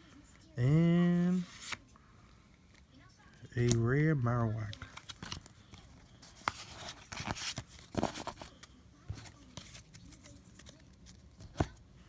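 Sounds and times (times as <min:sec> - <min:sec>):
cards and packaging rustling: 0:00.7 - 0:01.9, 0:02.7 - 0:11.9.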